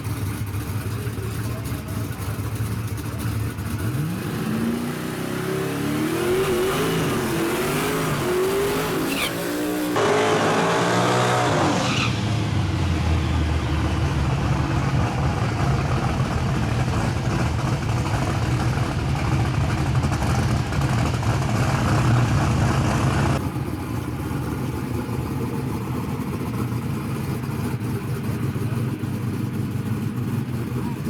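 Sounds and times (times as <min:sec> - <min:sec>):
loud drag car engine: 0:00.0 - 0:31.0
quieter engine running: 0:00.0 - 0:31.0.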